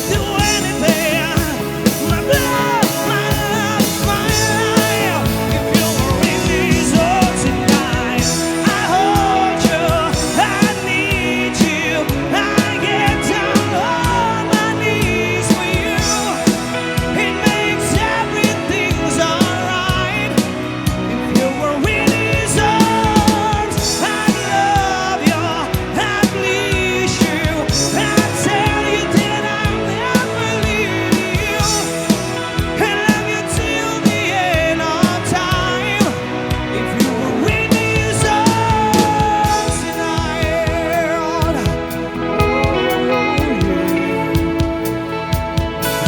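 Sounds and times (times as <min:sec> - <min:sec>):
lead vocal with vibrato: 0:00.0 - 0:46.0
live rock band playing: 0:00.0 - 0:46.0.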